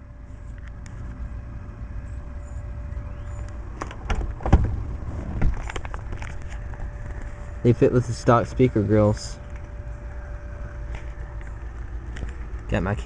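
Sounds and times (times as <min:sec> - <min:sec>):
faint steady hum: 0:00.0 - 0:13.0
steady low rumble: 0:00.0 - 0:13.0.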